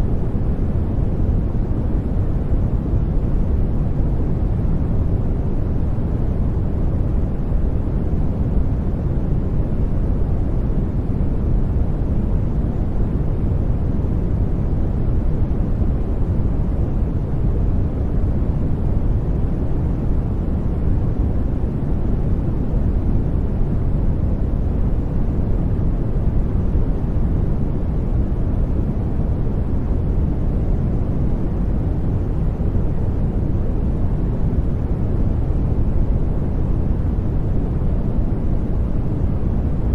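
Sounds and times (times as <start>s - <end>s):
deep brown noise rumble: 0.0s - 39.9s.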